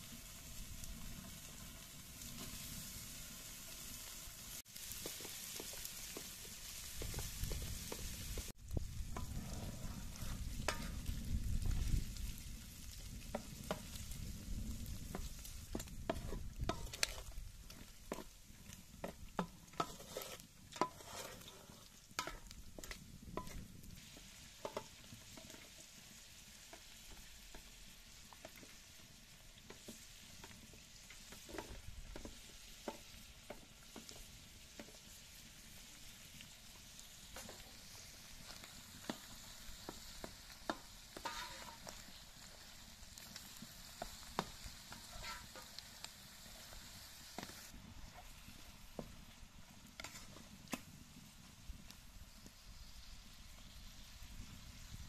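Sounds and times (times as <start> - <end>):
fat sizzling in a pan: 0.0 - 55.0
wooden spatula scraping a pan: 1.1 - 11.9, 14.9 - 50.9.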